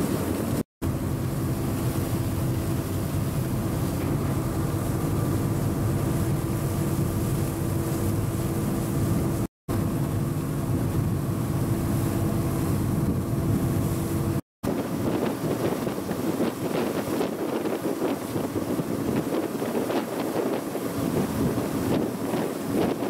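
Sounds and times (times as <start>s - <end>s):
boat engine droning: 0.0s - 23.0s
rushing water: 0.0s - 23.0s
wind: 0.0s - 23.0s.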